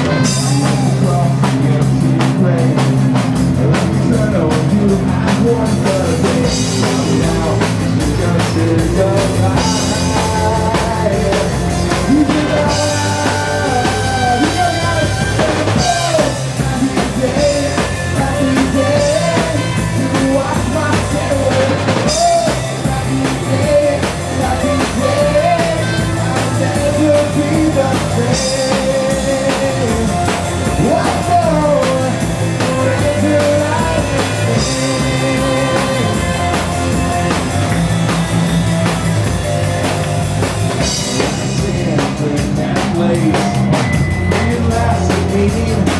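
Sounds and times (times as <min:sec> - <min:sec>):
bass: 0:00.0 - 0:45.9
drum kit beat: 0:00.0 - 0:45.9
lead melody line: 0:00.0 - 0:45.9.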